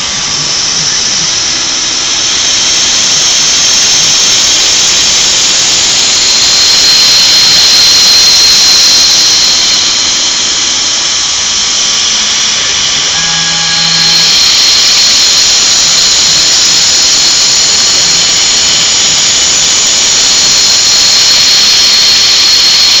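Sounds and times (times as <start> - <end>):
low hum: 0.0 - 23.0
machine high-pitched whine: 0.0 - 23.0.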